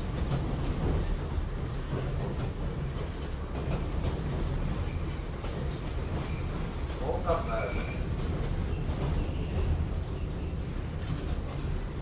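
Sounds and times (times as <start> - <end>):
railcar wheels and motors rumbling: 0.0 - 12.0.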